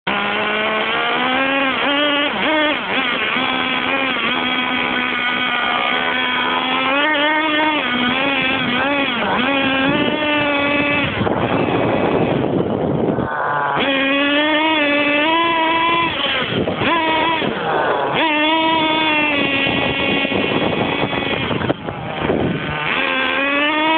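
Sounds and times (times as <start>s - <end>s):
small engine buzzing and revving: 0.0s - 23.9s.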